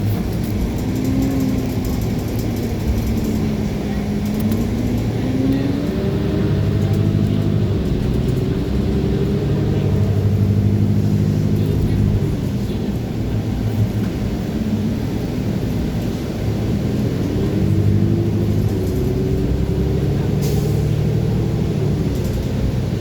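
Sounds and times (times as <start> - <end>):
bus engine pulling away: 0.0 - 23.0.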